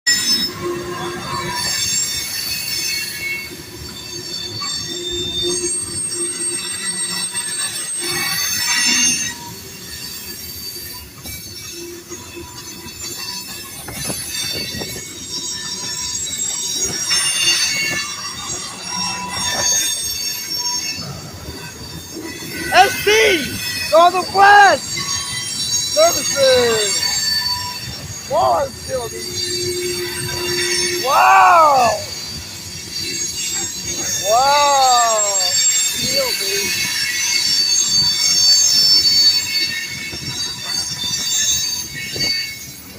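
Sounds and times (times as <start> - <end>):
steel wheels squealing on rail: 0.1 - 42.9
train cars rumbling and clattering: 0.1 - 42.9.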